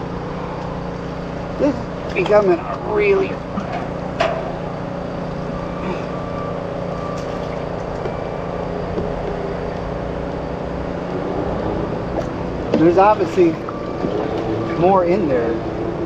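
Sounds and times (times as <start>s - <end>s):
jet ski engine idling: 0.0s - 16.0s.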